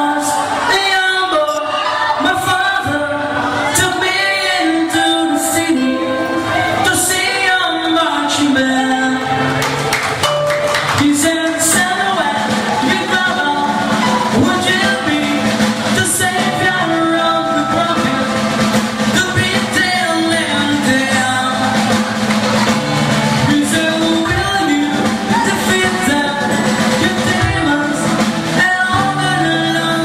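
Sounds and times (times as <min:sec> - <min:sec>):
lead vocalist singing: 0:00.0 - 0:10.2, 0:10.9 - 0:30.0
live rock band playing: 0:00.0 - 0:30.0.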